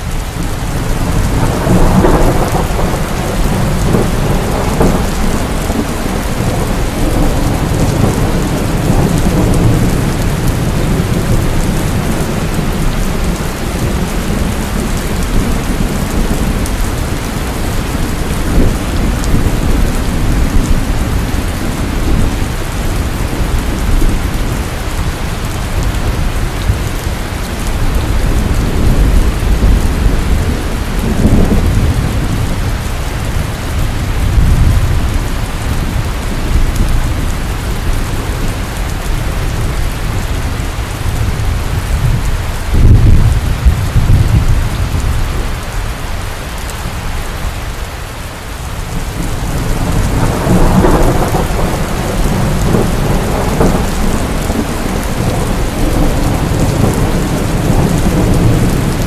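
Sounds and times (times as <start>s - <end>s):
rolling thunder: 0.0s - 45.7s, 48.8s - 59.0s
heavy rain pouring: 0.0s - 59.0s.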